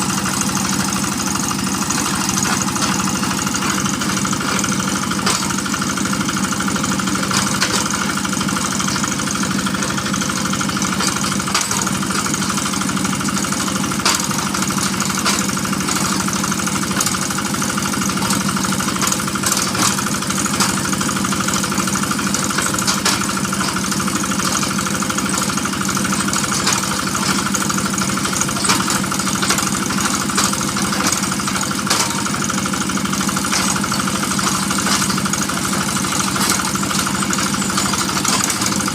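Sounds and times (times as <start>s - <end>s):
drilling machine engine running: 0.0s - 38.9s.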